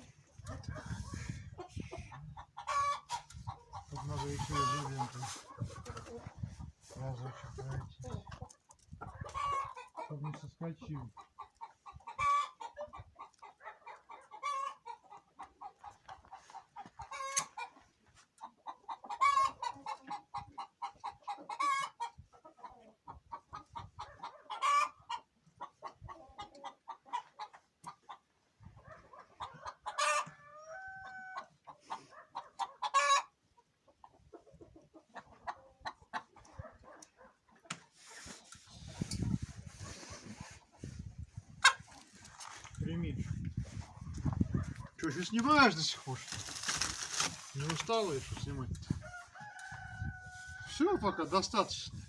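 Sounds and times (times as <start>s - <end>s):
chickens cackling calls: 0.0s - 52.0s
chickens clucking: 0.0s - 52.0s.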